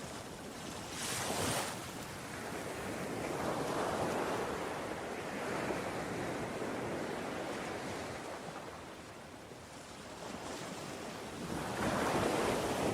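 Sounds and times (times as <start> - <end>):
wind on microphone: 0.0 - 12.9.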